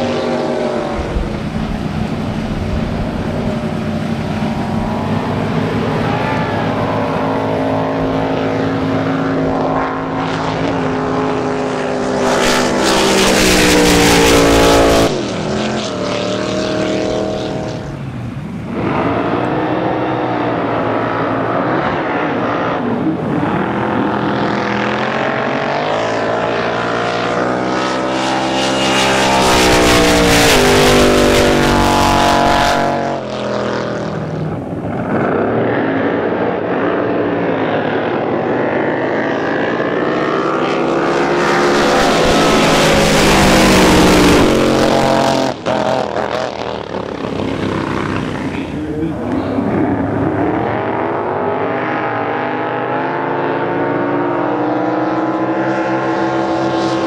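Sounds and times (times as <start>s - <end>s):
drag boat engines roaring: 0.0s - 57.0s.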